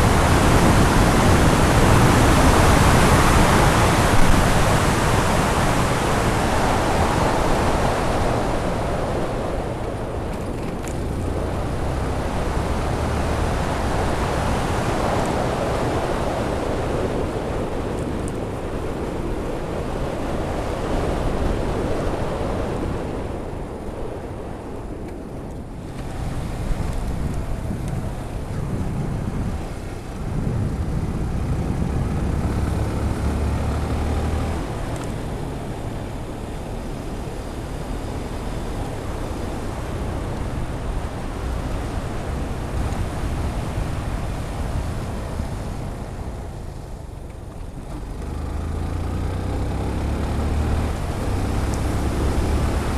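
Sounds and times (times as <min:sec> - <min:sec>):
wind buffeting microphone: 0:00.0 - 0:48.4
motorcycle engine hum: 0:00.0 - 0:52.9.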